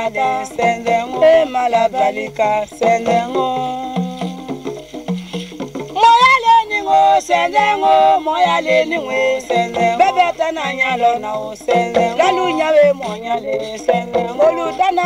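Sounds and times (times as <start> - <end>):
person singing: 0.0 - 4.9, 6.0 - 15.0
instrumental backing with low beat: 0.0 - 15.0.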